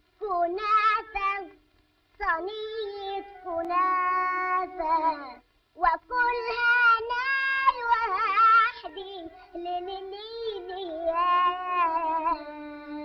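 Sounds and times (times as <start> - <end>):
high voice singing with vibrato: 0.2 - 1.6, 2.2 - 13.0.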